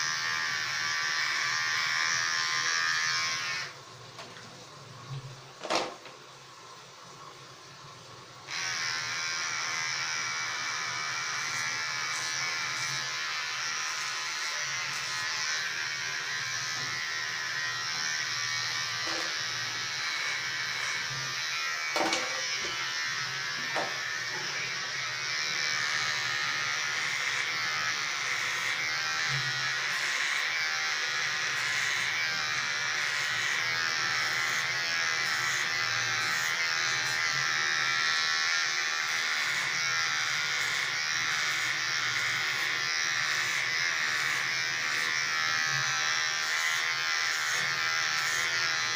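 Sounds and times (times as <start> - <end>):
electric hair clipper buzzing: 0.0 - 3.8, 8.5 - 48.9.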